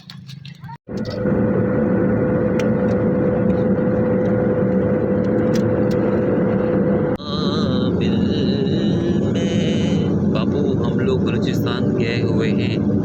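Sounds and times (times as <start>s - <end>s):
constant hum: 0.0s - 13.0s
vehicle moving on road: 0.0s - 13.0s.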